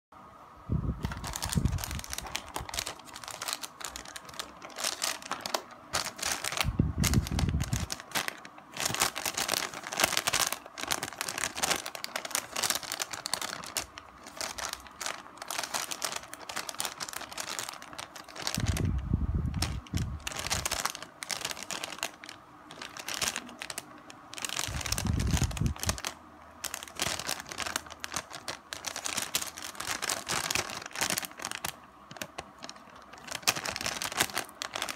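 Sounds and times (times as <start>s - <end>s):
plastic snack packet crinkling: 1.0s - 34.9s.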